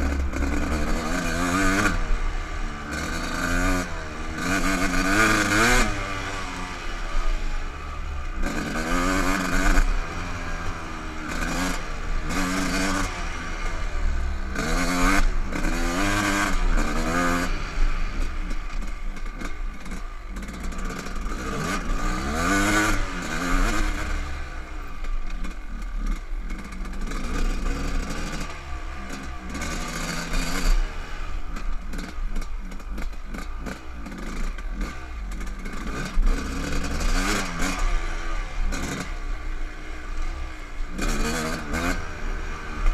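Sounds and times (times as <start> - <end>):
clatter and scraping from bumps: 0.0 - 6.8, 8.0 - 42.9
dirt bike engine revving: 0.0 - 42.9.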